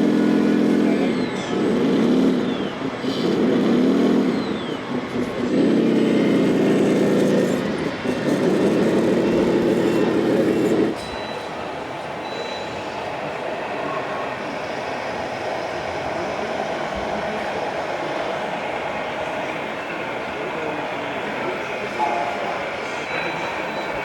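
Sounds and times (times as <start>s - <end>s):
simulated diesel truck engine: 0.0s - 24.0s.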